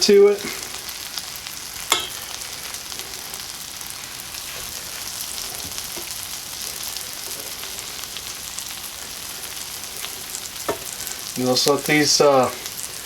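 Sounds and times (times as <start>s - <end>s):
butter sizzling in a pan: 0.0s - 13.0s.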